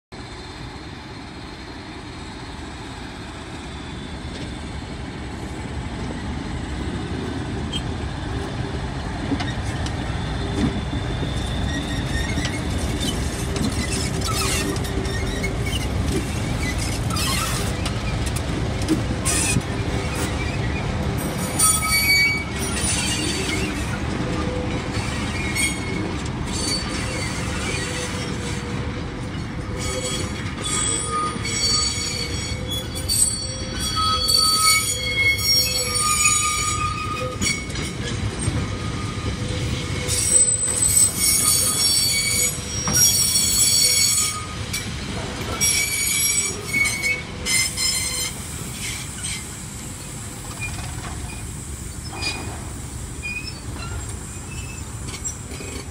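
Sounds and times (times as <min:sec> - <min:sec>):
diesel locomotive engines: 0:00.1 - 0:55.9
high wheel squeals: 0:09.4 - 0:18.3, 0:19.2 - 0:55.9.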